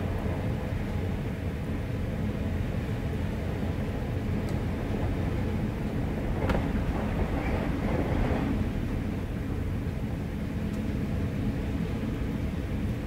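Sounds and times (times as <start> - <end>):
wind howling through door gap: 0.0 - 13.0.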